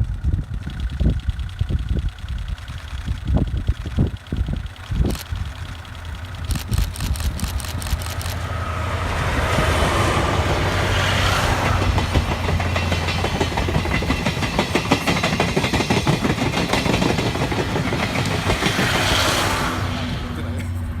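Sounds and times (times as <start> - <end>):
low train rumble: 0.0 - 21.0
train wheels clacking over rail joints: 2.4 - 21.0.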